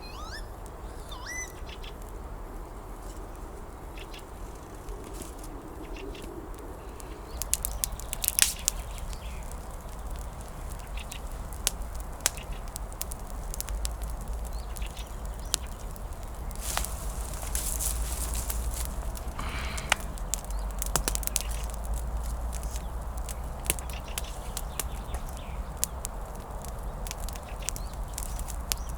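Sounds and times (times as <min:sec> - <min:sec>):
low rumble of wind: 0:00.0 - 0:28.9
kindling crackling and snapping: 0:00.6 - 0:28.9.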